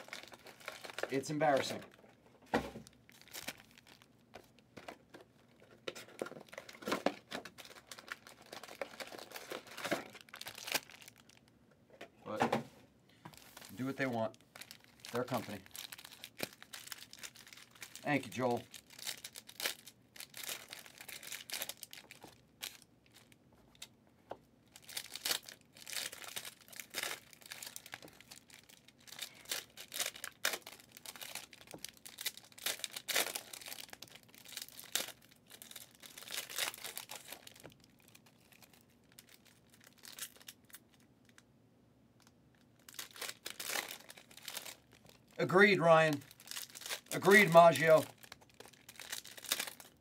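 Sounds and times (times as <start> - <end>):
foil wrappers crinkling: 0.0 - 2.0, 2.8 - 11.5, 13.3 - 23.9, 24.7 - 41.4, 42.6 - 50.0.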